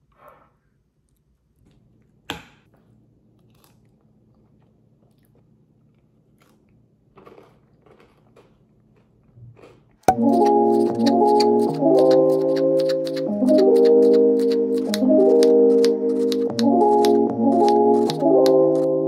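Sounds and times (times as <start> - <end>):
chewing and crunching: 2.7 - 19.0.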